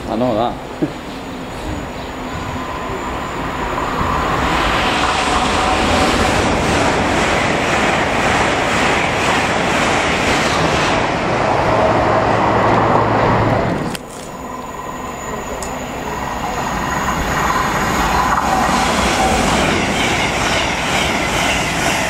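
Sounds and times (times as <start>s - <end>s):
train wheels rushing on rails: 0.0s - 22.0s.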